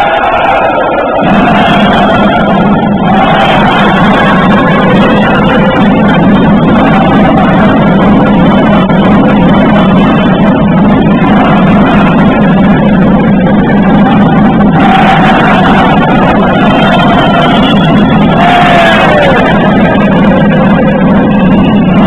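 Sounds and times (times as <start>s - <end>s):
basketball hall crowd din: 0.0s - 22.0s.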